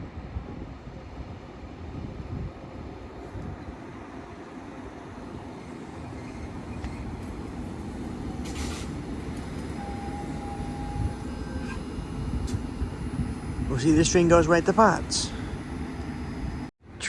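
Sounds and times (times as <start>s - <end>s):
electric train rumbling: 0.0s - 16.7s.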